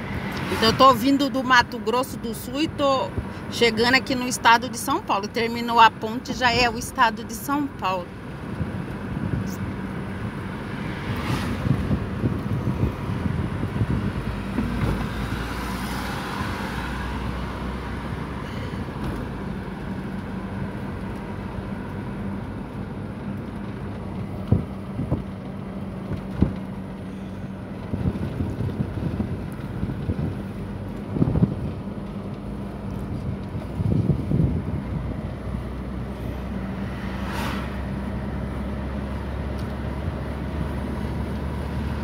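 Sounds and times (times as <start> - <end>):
car road noise rumble: 0.0 - 42.0.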